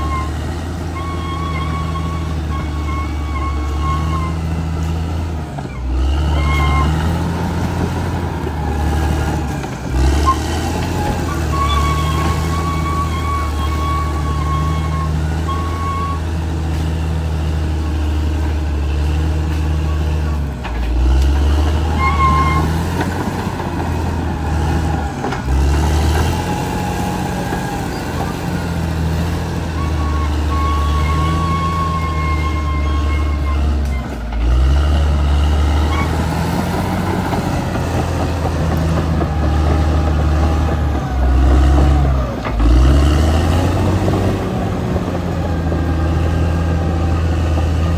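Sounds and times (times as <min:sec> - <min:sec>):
bulldozer diesel engine under load: 0:00.0 - 0:47.9.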